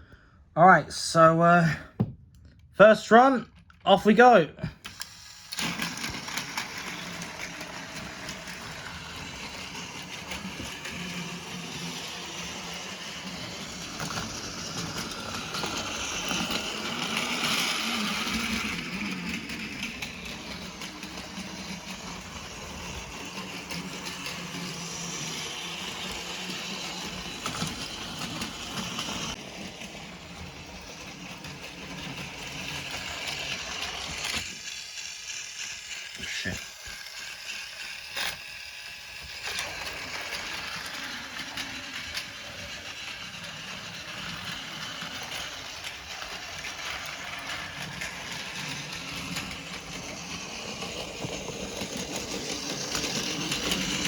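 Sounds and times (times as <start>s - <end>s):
toy train motor whirring: 2.9s - 54.0s
wheels rattling on plastic track: 4.8s - 54.0s.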